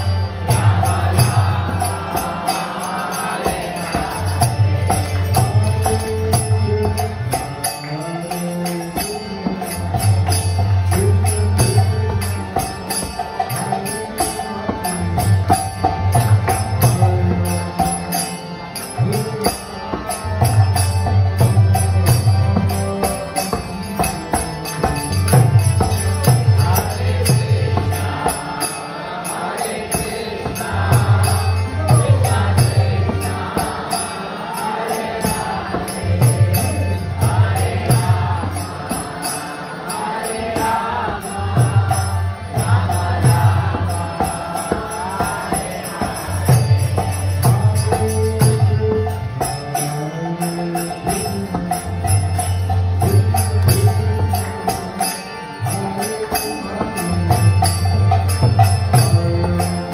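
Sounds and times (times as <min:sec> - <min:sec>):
harmonium: 0:00.0 - 0:59.9
small hand cymbals beat: 0:00.0 - 0:59.9.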